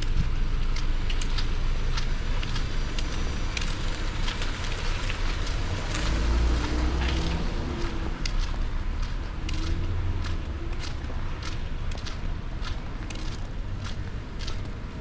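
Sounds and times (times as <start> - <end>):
low rumble of traffic or wind: 0.0 - 15.0
rain drops pattering: 0.0 - 15.0.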